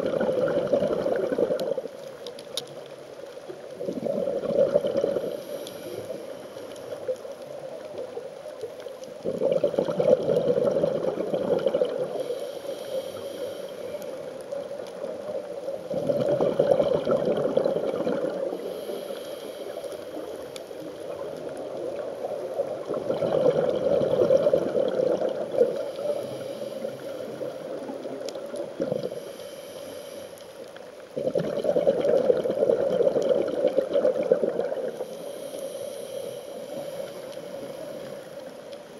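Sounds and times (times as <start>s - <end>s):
quiet breathing: 0.0s - 38.9s
underwater exhaled bubbles: 0.0s - 38.9s.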